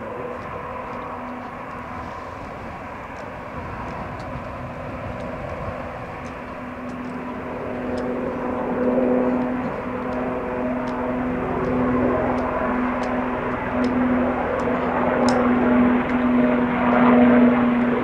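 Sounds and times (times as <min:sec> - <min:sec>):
helicopter engine hum: 0:00.0 - 0:18.0.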